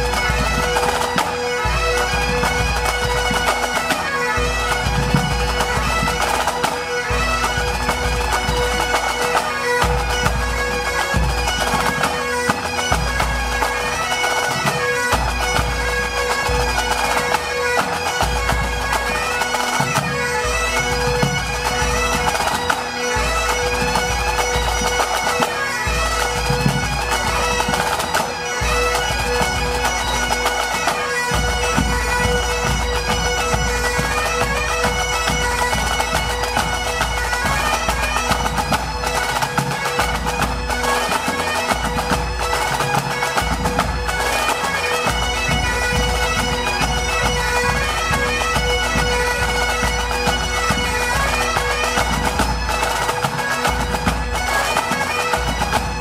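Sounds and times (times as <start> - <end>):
bagpipes playing melody over drone: 0.0 - 56.0
pipe band drums beating: 0.0 - 56.0.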